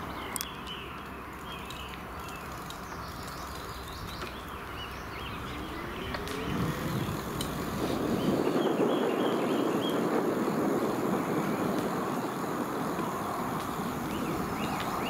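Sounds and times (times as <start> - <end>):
rushing noise of bicycle ride: 0.0 - 15.0
small birds chirping: 0.0 - 15.0.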